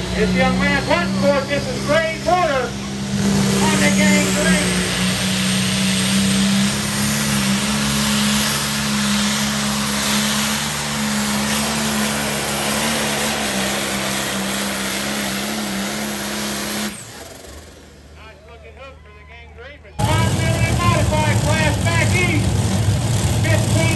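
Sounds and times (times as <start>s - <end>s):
tractor diesel engine under load: 0.0s - 18.9s, 20.0s - 23.9s.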